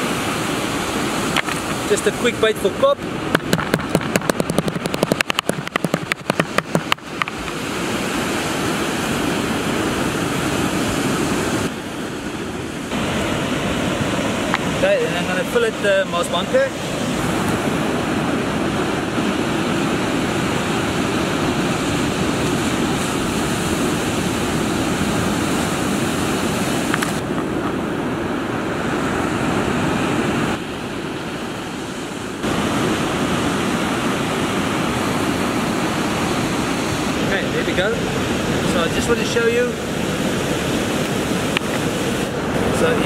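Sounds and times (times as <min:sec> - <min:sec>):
ocean surf breaking: 0:00.0 - 0:43.0.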